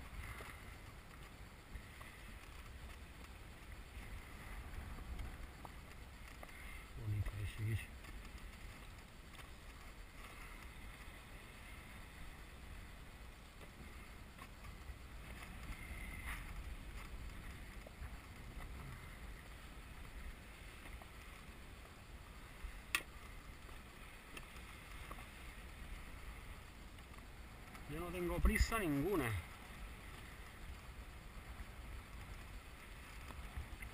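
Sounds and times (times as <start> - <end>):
water rumbling around boat: 0.0 - 33.9
wind: 0.0 - 33.9.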